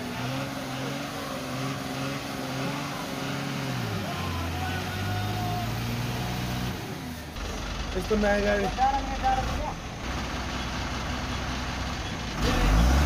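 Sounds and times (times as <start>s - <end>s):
truck diesel engine revving: 0.0s - 13.0s.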